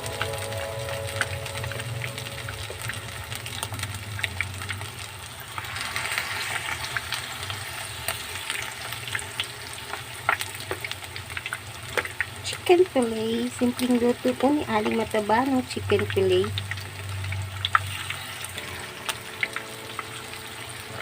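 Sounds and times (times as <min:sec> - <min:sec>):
chicken deep-frying in oil: 0:00.0 - 0:21.0
oil popping and crackling: 0:00.0 - 0:21.0.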